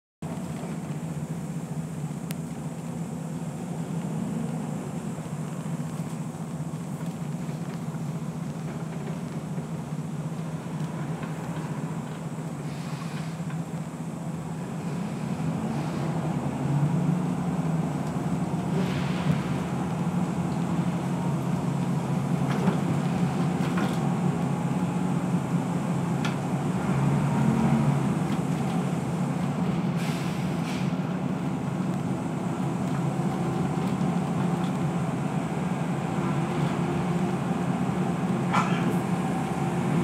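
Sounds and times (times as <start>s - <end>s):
bus engines rumbling: 0.2s - 40.0s.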